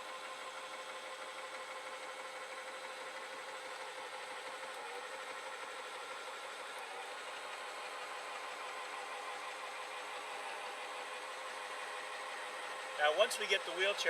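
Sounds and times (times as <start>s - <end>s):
motor humming: 0.1s - 14.0s.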